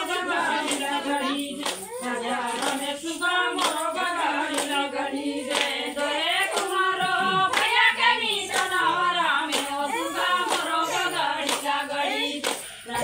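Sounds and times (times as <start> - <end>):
hands clapping: 0.0 - 13.0
women singing folk song: 0.0 - 13.0.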